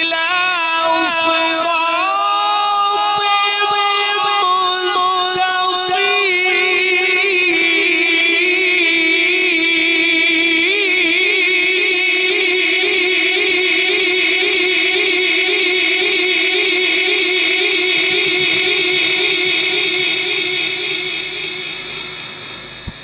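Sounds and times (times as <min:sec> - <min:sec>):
person reciting over loudspeaker: 0:00.0 - 0:23.0.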